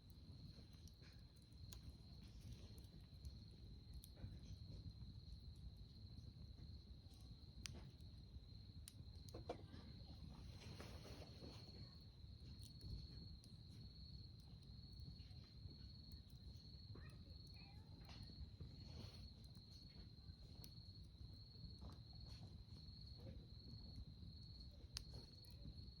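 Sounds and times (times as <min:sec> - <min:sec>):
campfire crackles: 0:00.0 - 0:26.0.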